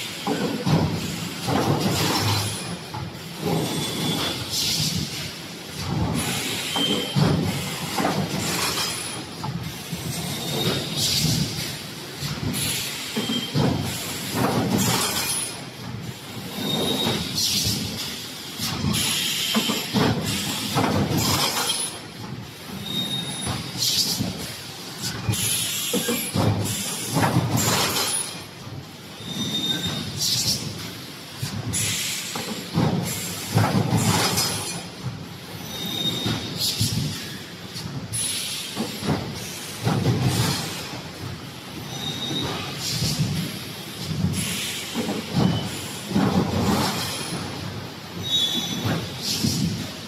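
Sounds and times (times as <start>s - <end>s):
welding machine clattering and hissing: 0.0s - 50.0s.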